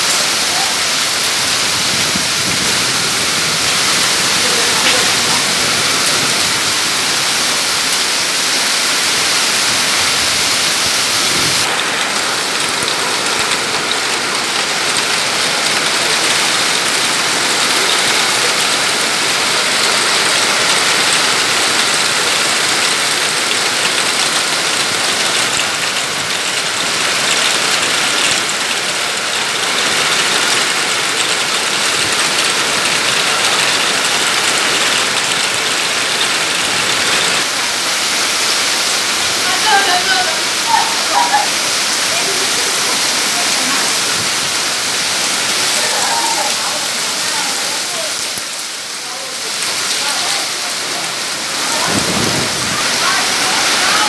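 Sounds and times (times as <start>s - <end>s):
heavy hail pelting ground: 0.0s - 54.0s.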